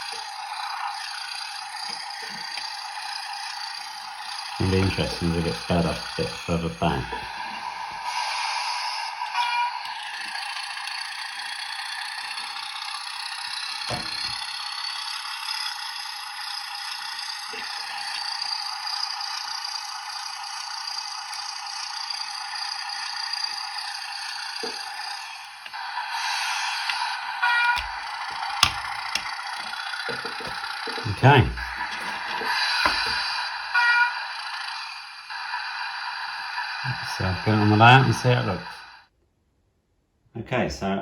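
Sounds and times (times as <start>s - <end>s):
diesel locomotive engine from small speaker: 0.0s - 39.1s.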